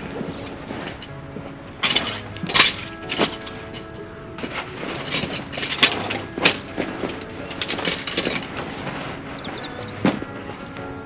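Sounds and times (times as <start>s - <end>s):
canvas and bags rustling: 0.0s - 11.0s.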